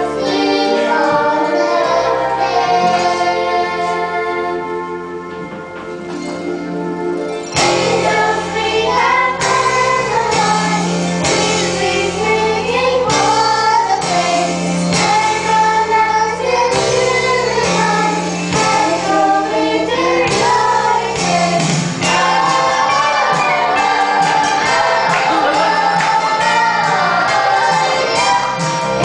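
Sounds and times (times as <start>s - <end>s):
children's choir singing: 0.0s - 6.4s, 7.6s - 29.0s
instrumental accompaniment with beat: 0.0s - 29.0s.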